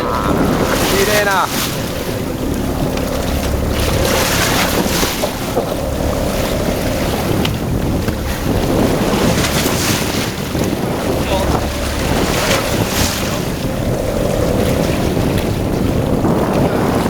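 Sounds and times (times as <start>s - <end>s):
faint held tone: 0.0s - 16.7s
boat engine running: 0.0s - 17.0s
water: 0.0s - 17.0s
wind buffeting microphone: 0.0s - 17.0s.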